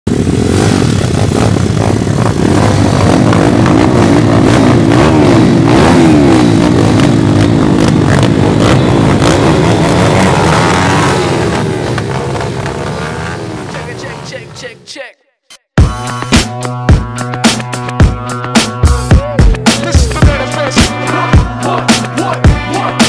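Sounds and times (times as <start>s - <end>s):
pit bike engines revving: 0.1s - 14.8s, 17.1s - 23.0s.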